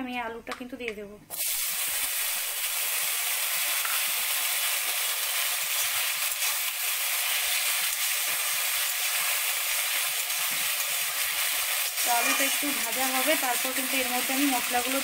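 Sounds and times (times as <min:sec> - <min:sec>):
potatoes sizzling in hot oil: 0:01.3 - 0:15.0.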